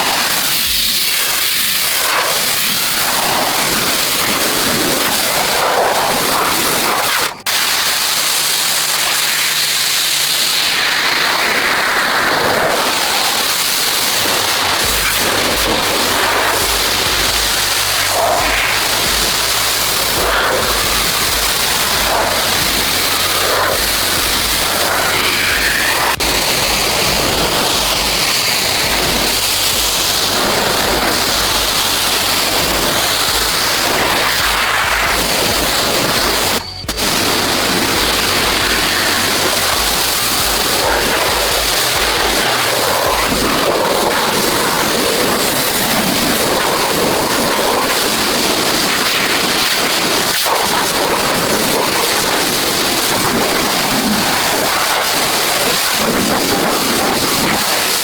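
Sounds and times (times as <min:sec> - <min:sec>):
loud rushing noise: 0:00.0 - 0:58.0.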